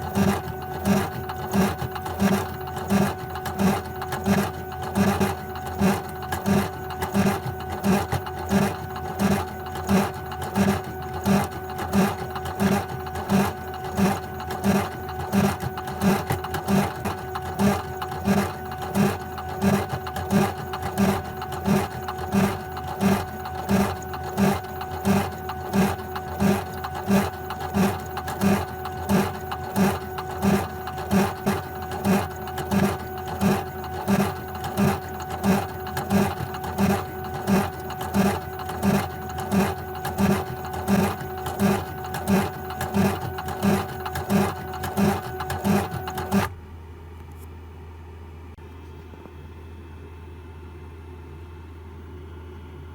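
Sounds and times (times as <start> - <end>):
embroidery machine stitching: 0.0 - 46.6.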